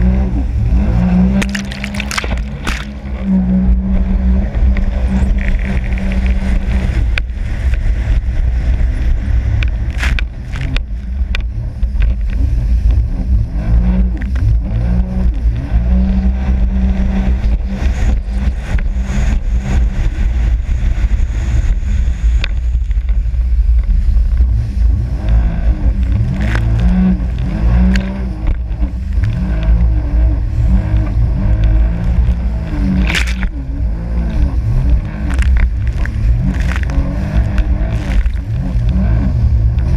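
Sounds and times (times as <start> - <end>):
hull slapping waves: 0.0 - 39.9
jet ski engine running: 0.0 - 39.9.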